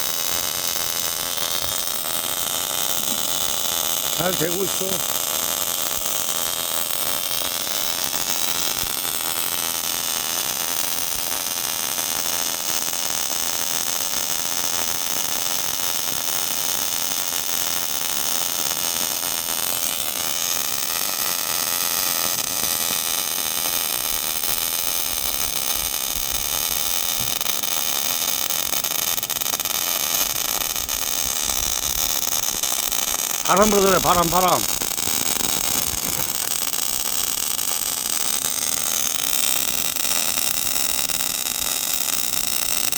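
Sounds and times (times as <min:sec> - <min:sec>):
welding arc hiss: 0:00.0 - 0:42.9.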